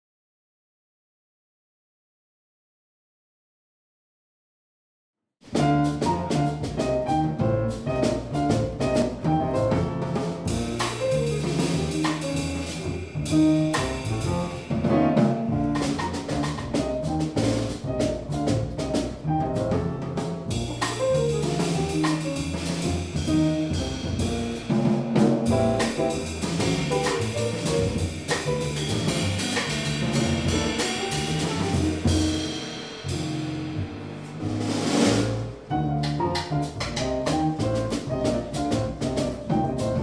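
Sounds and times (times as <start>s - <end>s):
jazz piano trio: 5.4s - 40.0s.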